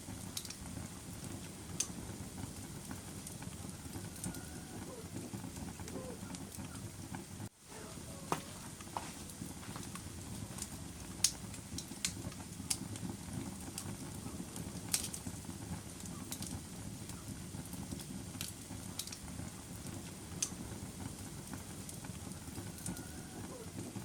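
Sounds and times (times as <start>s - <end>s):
fire popping and snapping: 0.0s - 24.0s
wood fire crackling: 0.0s - 24.0s.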